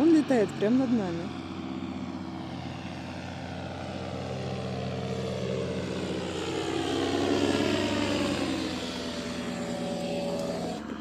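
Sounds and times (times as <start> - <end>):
paramotor engine droning overhead: 0.0 - 11.0.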